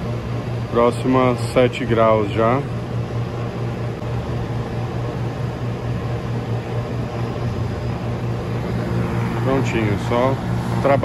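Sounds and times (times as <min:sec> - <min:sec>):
water chiller humming: 0:00.0 - 0:11.0.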